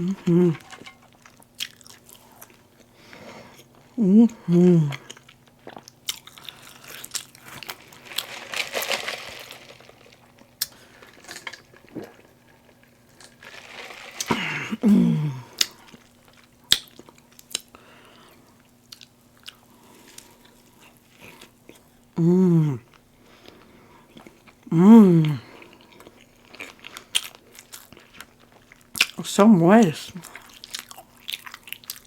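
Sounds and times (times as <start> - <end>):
person chewing food: 0.0 - 21.9, 22.8 - 29.2, 30.2 - 32.0.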